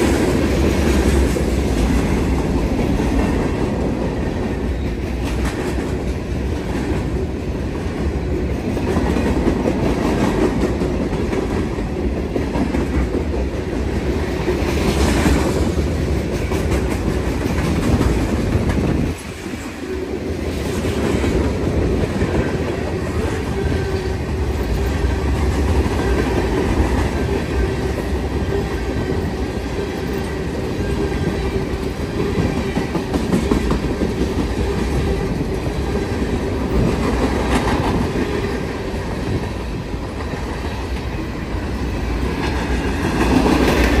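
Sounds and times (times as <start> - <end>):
freight train wheels clattering: 0.0 - 44.0.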